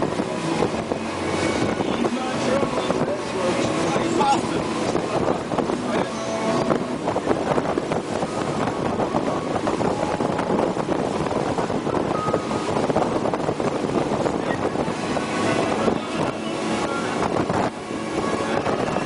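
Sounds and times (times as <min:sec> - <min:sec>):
motorboat engine: 0:00.0 - 0:19.0
rushing water: 0:00.0 - 0:19.0
wind buffeting microphone: 0:00.0 - 0:19.0.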